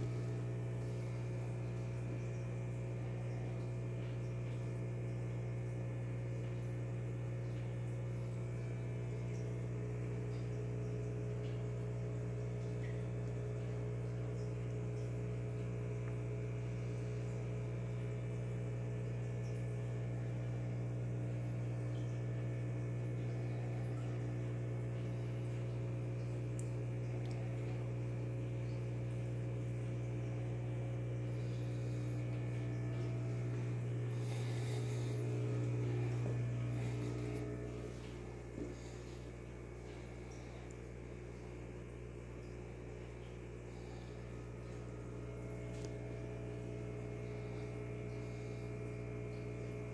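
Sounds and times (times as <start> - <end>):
aquarium equipment humming: 0.0 - 49.9.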